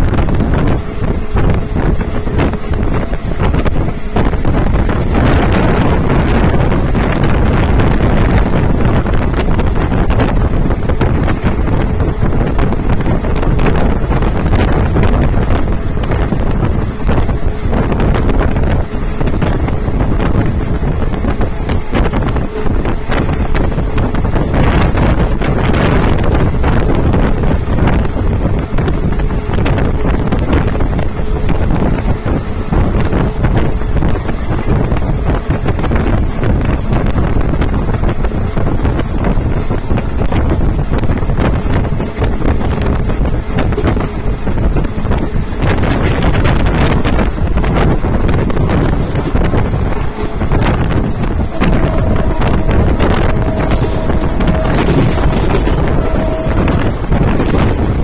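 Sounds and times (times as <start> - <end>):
train coaches rumbling: 0.0 - 58.0
wind rushing across microphone: 0.0 - 58.0.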